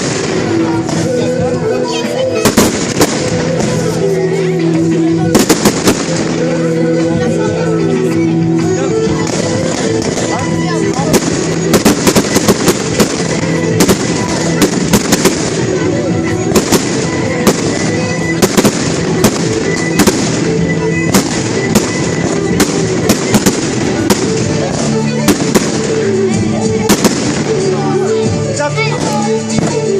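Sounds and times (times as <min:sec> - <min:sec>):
fireworks bangs and cracks: 0:00.0 - 0:04.2, 0:05.0 - 0:06.6, 0:08.6 - 0:28.0, 0:28.8 - 0:29.9
background music: 0:00.0 - 0:29.9.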